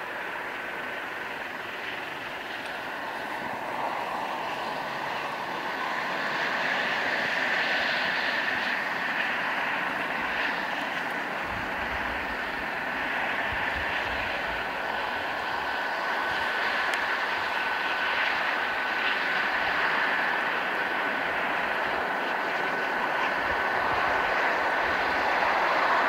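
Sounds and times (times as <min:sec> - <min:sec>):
helicopter engine whine: 0:00.0 - 0:26.0
rotor and exhaust rushing: 0:00.0 - 0:26.0.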